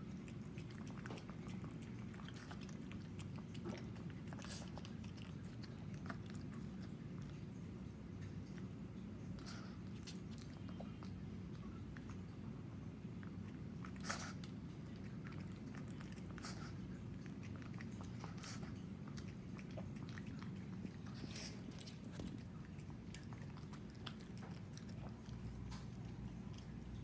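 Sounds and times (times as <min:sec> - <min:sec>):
dog chewing and lip-smacking: 0:00.0 - 0:27.0.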